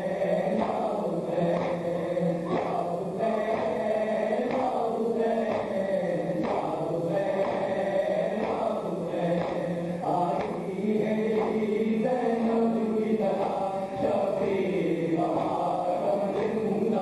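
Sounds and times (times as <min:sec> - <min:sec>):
men chanting: 0:00.0 - 0:17.0
people slapping chests: 0:00.0 - 0:17.0.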